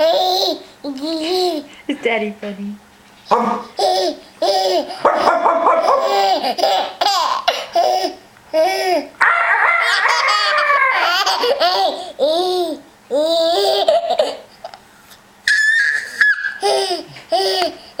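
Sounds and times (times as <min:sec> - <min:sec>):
baby giggling: 0:00.0 - 0:01.7, 0:03.6 - 0:09.1, 0:09.8 - 0:14.8, 0:15.5 - 0:18.0.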